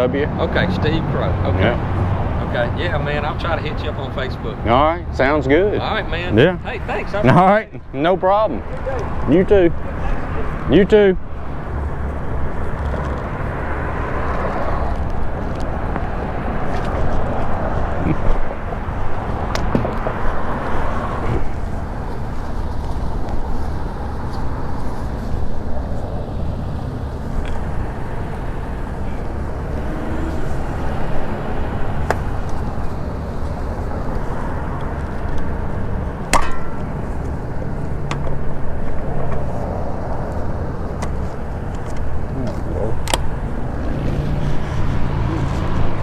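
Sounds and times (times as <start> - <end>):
wind and road rumble: 0.0 - 46.0.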